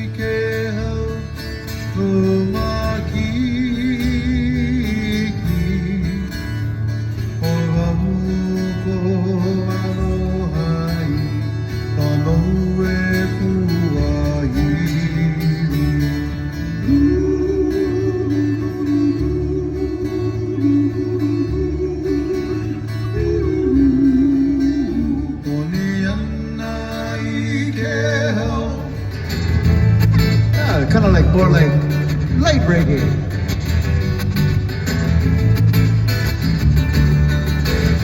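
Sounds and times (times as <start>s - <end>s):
acoustic guitars playing: 0.0s - 38.0s.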